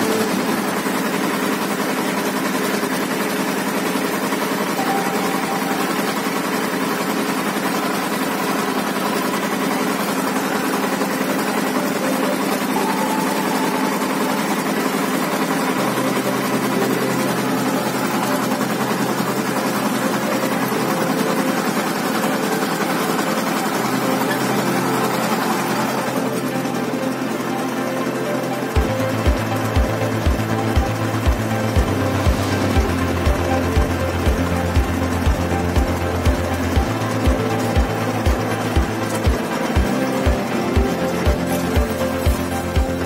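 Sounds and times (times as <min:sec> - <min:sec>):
tractor diesel engine under load: 0:00.0 - 0:43.0.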